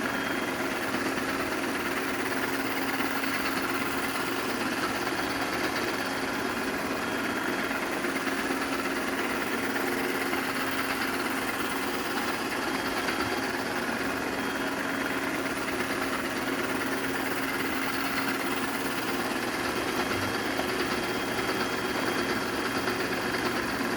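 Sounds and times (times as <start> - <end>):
robot vacuum whirring: 0.0 - 23.9.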